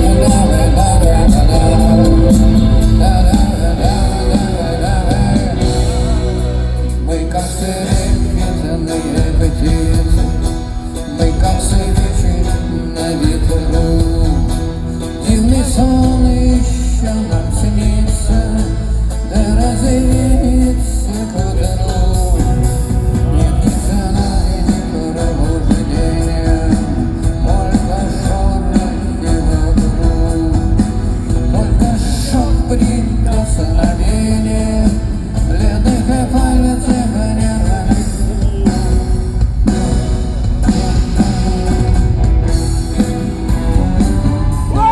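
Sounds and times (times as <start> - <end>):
bass and drum beat: 0.0 - 44.9
electric guitar: 0.0 - 44.9
live rock band playing: 0.0 - 44.9
person singing: 0.0 - 44.9.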